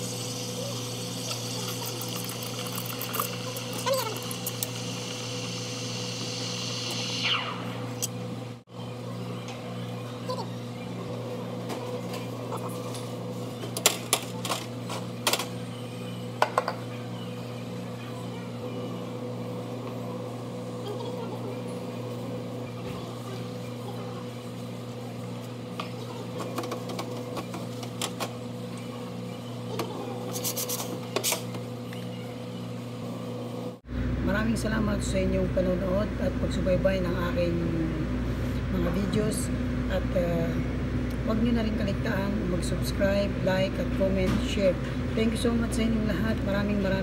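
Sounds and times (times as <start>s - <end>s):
low hum of cafe equipment: 0.0s - 47.0s.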